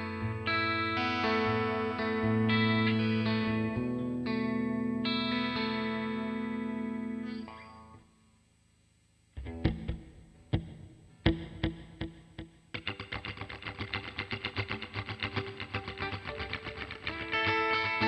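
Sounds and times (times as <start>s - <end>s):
electric guitar picked notes: 0.0s - 8.4s, 9.4s - 18.0s.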